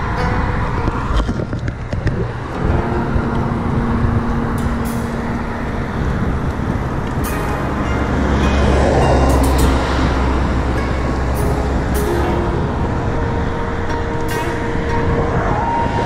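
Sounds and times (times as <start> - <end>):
traffic rumble: 0.0 - 16.0
vehicle passing by: 0.0 - 16.0.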